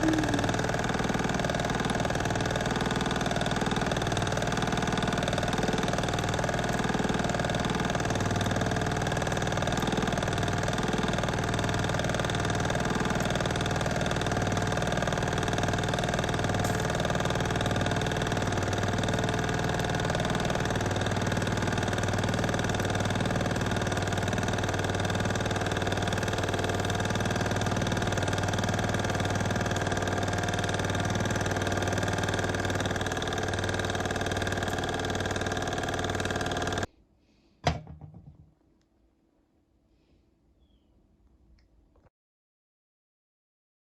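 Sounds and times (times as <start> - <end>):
model steam engine running: 0.0 - 36.9.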